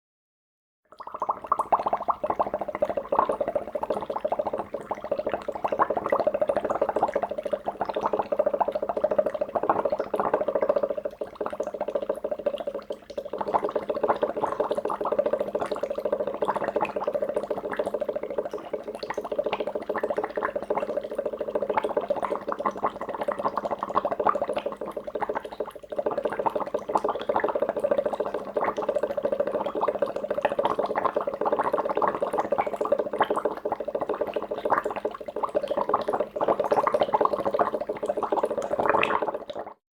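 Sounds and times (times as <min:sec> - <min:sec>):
water bubbling at a boil: 0:00.9 - 0:39.8.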